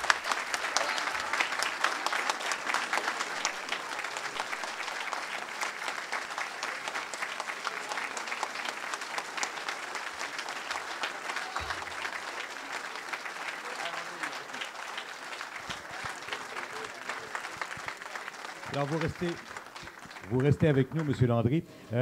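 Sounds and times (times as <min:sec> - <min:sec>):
audience applauding: 0:00.0 - 0:21.6.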